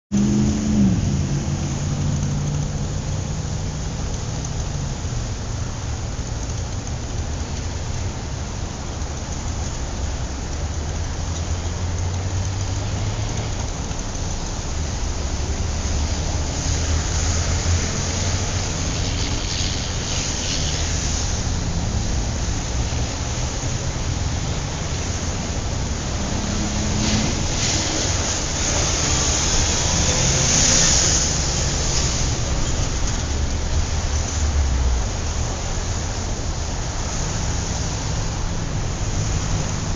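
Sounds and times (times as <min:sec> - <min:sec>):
engines rumbling: 0:00.1 - 0:39.9
tyres hissing on road: 0:00.2 - 0:39.9.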